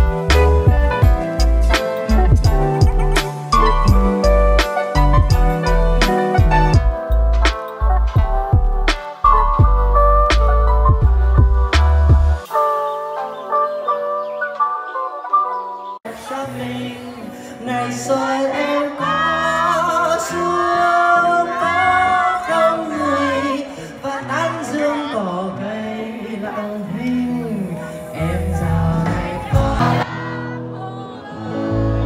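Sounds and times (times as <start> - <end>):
live band with singer: 0.0 - 13.9, 16.1 - 32.0.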